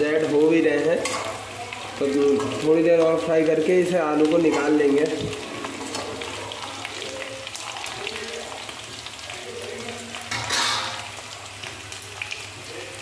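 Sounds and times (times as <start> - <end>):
potatoes frying in hot oil: 0.0 - 13.0.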